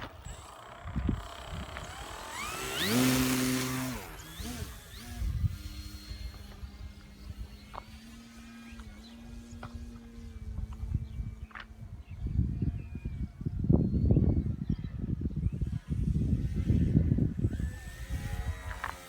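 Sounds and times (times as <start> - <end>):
rc plane motor whine: 0.0 - 19.0
wind rumbling on microphone: 0.0 - 19.0.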